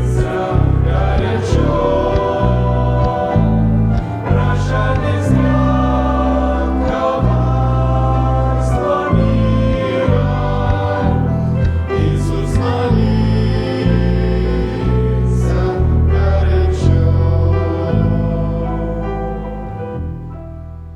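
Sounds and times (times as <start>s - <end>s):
choir singing: 0.0s - 20.2s
bass line: 0.0s - 20.9s
instrumental accompaniment: 0.0s - 20.9s.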